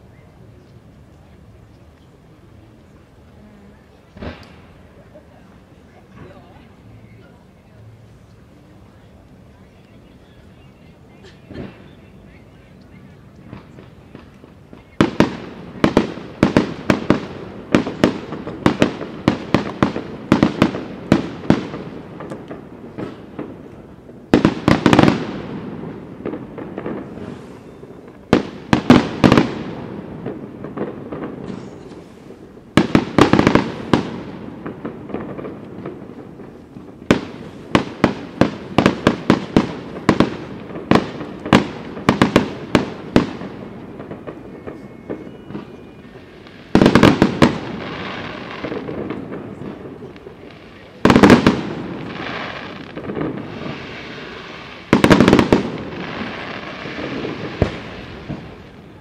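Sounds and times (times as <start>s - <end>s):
fireworks bangs: 3.8s - 7.2s, 11.2s - 59.0s.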